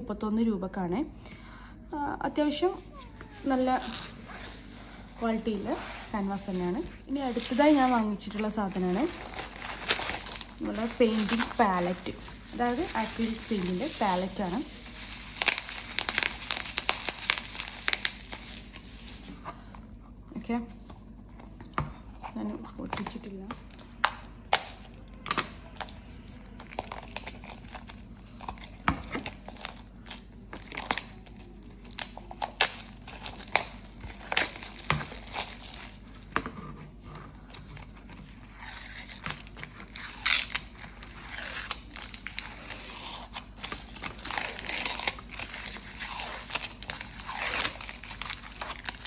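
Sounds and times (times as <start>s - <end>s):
plastic wrap crinkling and tearing: 2.6s - 20.2s, 23.0s - 49.0s.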